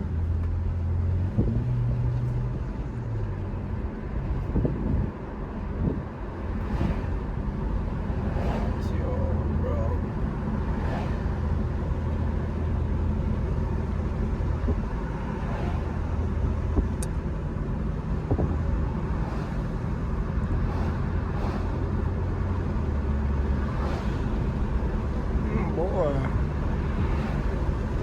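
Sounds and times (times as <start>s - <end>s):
car engine while driving: 0.0s - 28.0s
tyre and road noise: 0.0s - 28.0s.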